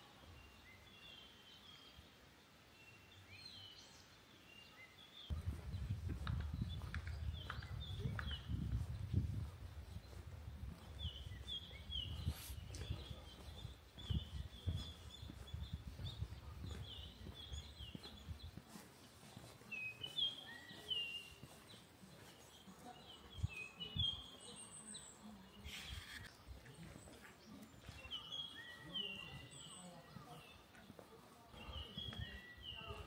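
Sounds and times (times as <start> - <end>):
small birds chirping: 0.1 - 33.0.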